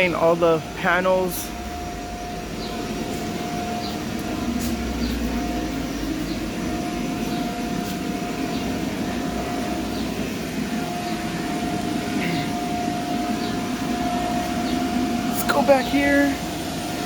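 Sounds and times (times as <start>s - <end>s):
ventilation fan whirring: 0.0s - 17.0s.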